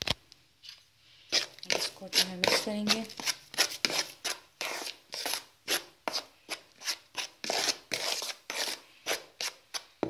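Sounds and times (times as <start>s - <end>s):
metal spoon scraping a bowl: 0.7s - 9.9s.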